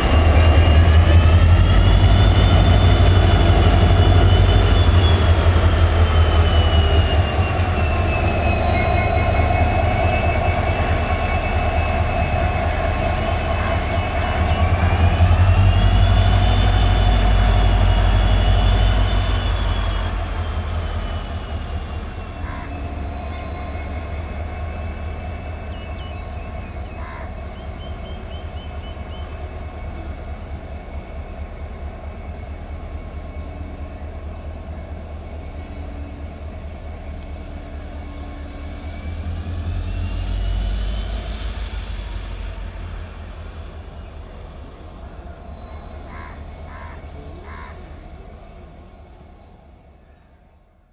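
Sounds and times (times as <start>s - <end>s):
high whine rising and falling: 0.0s - 49.8s
diesel locomotive engine rumble: 0.0s - 50.9s.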